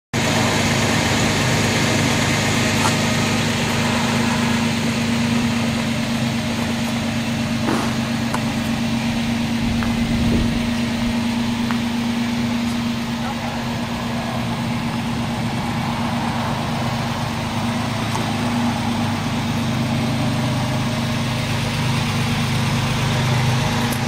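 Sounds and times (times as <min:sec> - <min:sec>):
car engine idling: 0:00.2 - 0:24.0.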